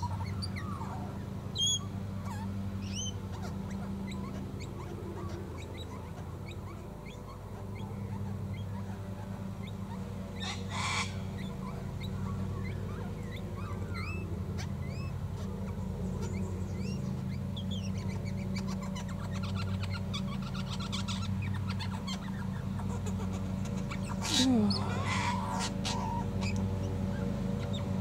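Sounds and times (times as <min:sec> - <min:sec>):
birds chirping: 0:00.0 - 0:28.0
lawnmower engines droning: 0:00.0 - 0:28.0.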